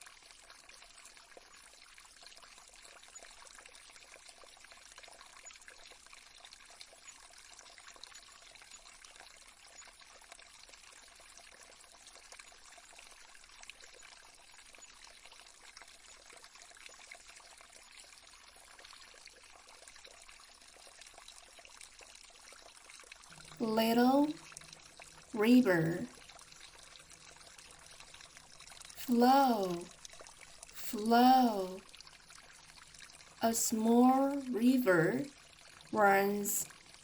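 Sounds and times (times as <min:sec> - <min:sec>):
stream trickling over stones: 0:00.0 - 0:37.0.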